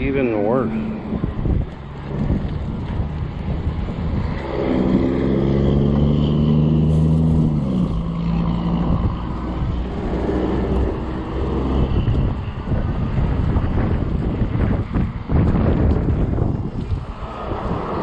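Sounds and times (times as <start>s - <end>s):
passing vehicle engine: 0.0s - 18.0s
wind noise on microphone: 0.0s - 18.0s.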